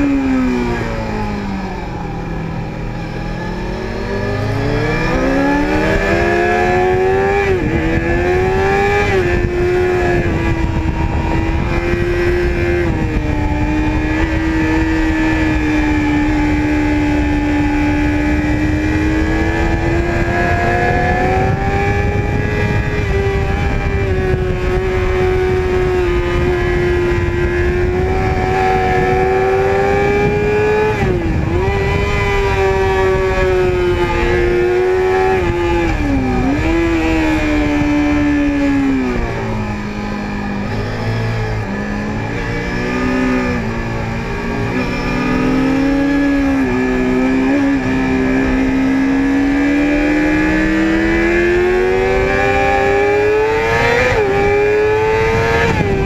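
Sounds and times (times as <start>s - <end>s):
motorcycle engine at high revs: 0.0s - 56.0s
wind noise: 0.0s - 56.0s.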